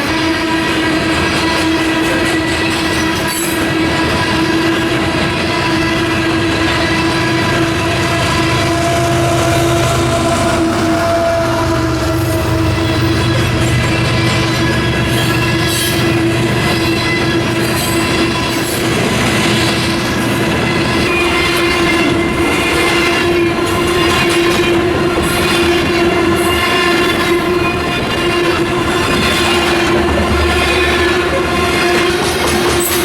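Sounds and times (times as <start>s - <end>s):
train horn: 0.0s - 33.0s
train wheels clattering on rails: 0.0s - 33.0s.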